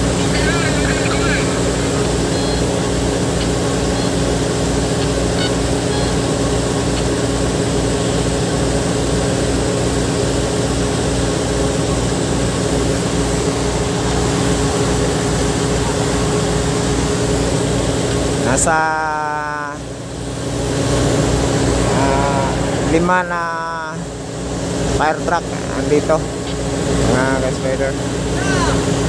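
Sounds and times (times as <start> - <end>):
fire truck engine running: 0.0 - 29.0.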